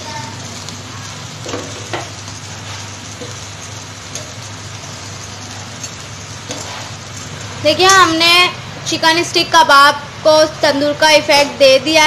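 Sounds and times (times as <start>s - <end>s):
chicken skewers sizzling on grill: 0.0s - 12.0s.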